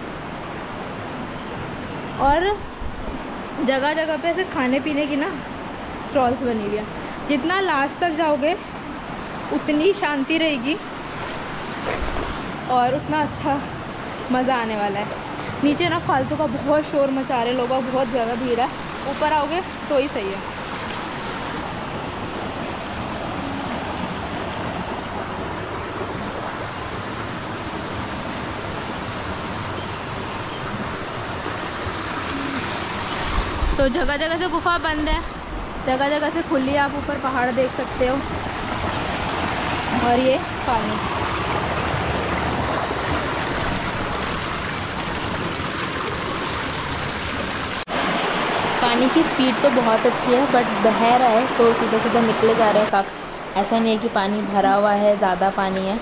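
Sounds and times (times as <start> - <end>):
stream rushing over rocks: 3.0 - 55.4.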